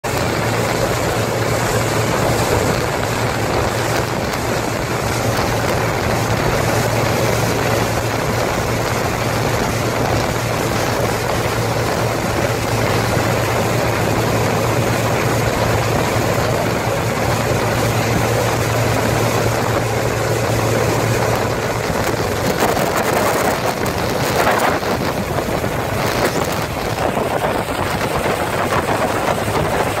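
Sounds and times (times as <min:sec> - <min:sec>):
motorboat engine hum: 0:00.0 - 0:30.0
rushing water: 0:00.0 - 0:30.0
wind: 0:00.0 - 0:30.0.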